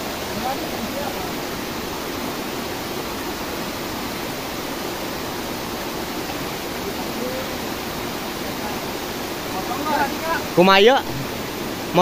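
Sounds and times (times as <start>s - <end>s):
small waterfall over rocks: 0.0s - 12.0s.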